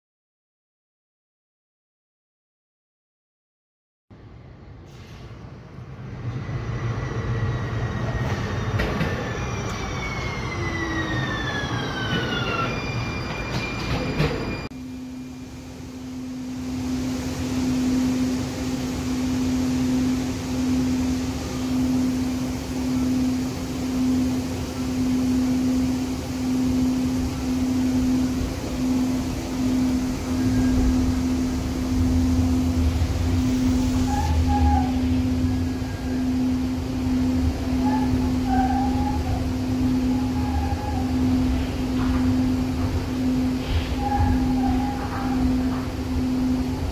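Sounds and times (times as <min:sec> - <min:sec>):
train humming over rolling noise: 0:04.1 - 0:46.9
train whining tones: 0:04.5 - 0:46.9.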